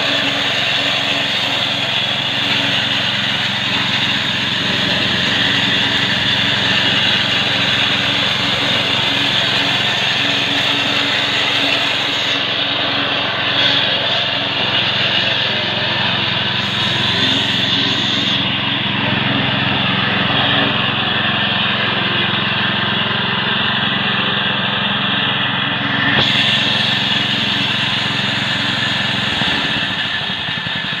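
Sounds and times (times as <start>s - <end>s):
grass cutter pushed through grass: 0.0s - 31.0s
small petrol engine running: 0.0s - 31.0s.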